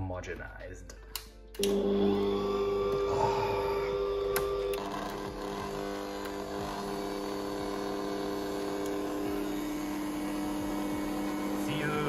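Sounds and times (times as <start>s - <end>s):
stand mixer motor humming: 1.6s - 12.0s.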